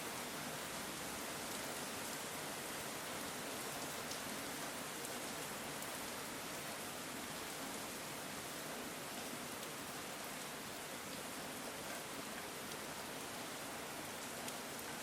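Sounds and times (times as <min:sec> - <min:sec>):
steady rain on ground: 0:00.0 - 0:15.0.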